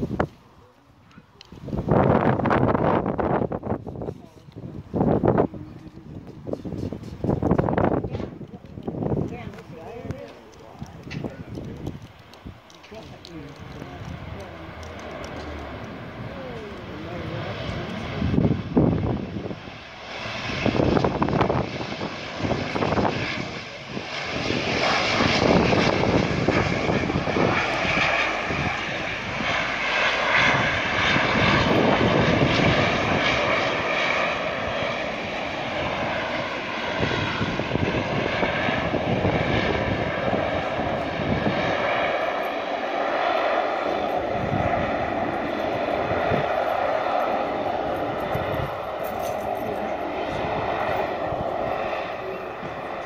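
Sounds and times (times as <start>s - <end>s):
engine whine: 0.0s - 53.0s
turboprop propeller drone: 1.4s - 53.0s.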